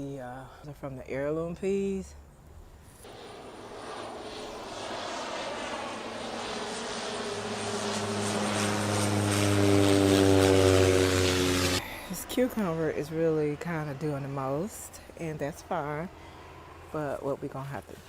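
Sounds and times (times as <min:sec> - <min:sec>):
propeller aircraft engine drone: 0:02.1 - 0:18.0.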